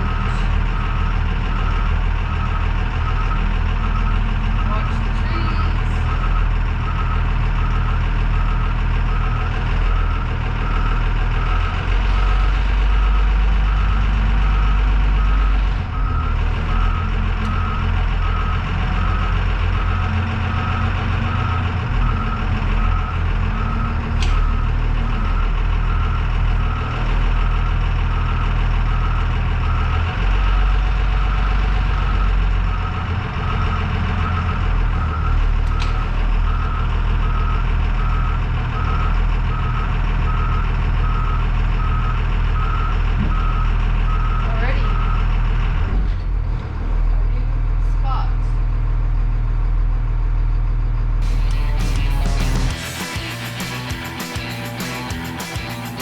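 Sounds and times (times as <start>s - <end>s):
reversing alarm beeping: 0.0s - 45.3s
diesel bus engine under load: 0.0s - 56.0s.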